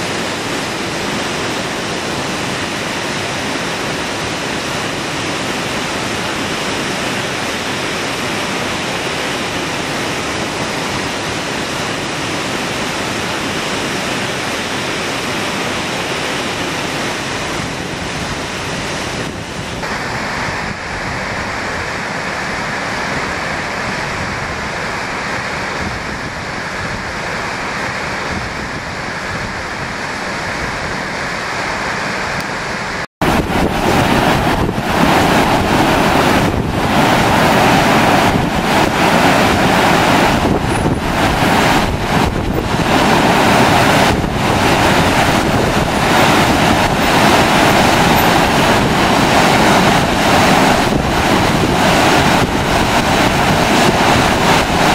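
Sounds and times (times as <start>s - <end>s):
flood water rushing: 0.0s - 54.9s.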